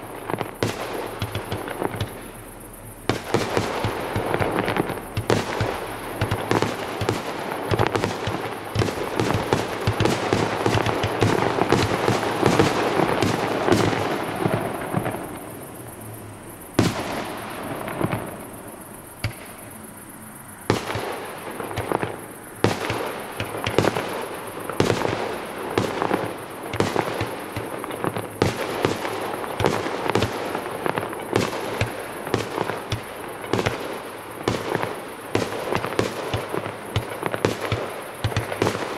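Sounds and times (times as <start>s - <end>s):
fireworks crackling and banging: 0.0s - 19.8s, 20.6s - 38.9s.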